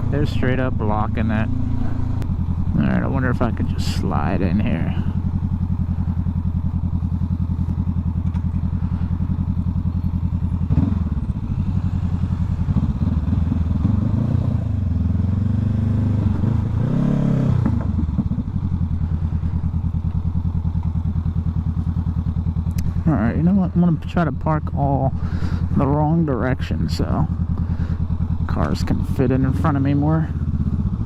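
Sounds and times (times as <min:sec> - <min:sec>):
motorcycle engine at low revs: 0:00.0 - 0:31.0.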